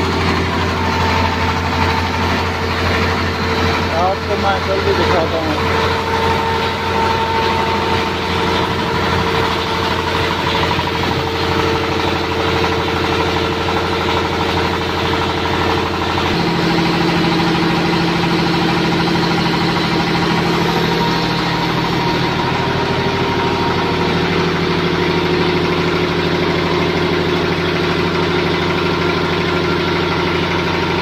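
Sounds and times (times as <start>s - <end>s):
diesel engine hum: 0.0s - 31.0s
mill whirring: 0.0s - 31.0s.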